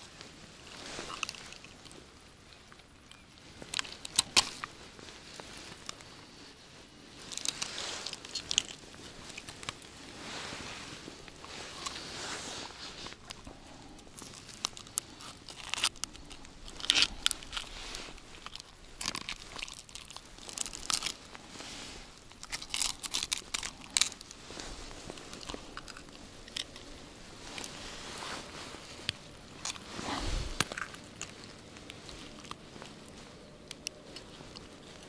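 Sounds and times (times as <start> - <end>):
crunches and crackles of handling: 0.0 - 35.0.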